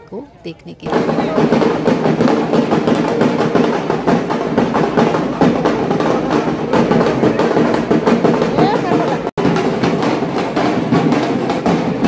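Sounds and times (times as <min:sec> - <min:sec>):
crowd din: 0:00.0 - 0:12.0
procession drums beating: 0:00.8 - 0:12.0.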